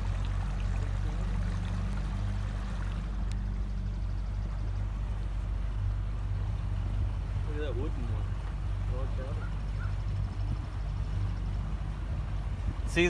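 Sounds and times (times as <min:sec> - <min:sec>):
boat motor running: 0:00.0 - 0:13.0
water rushing along hull: 0:00.0 - 0:13.0.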